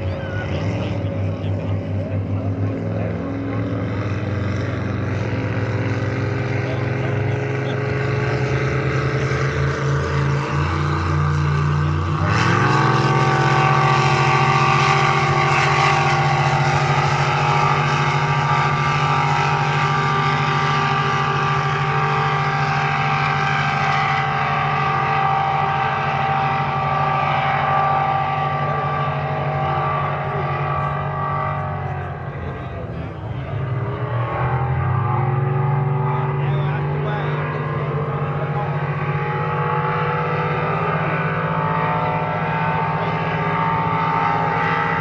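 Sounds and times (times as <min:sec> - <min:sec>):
racing boat engines: 0:00.0 - 0:45.0.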